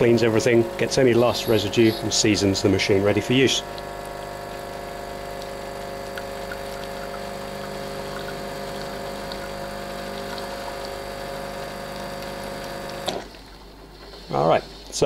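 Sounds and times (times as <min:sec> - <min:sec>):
espresso machine pump humming: 0:00.0 - 0:15.0.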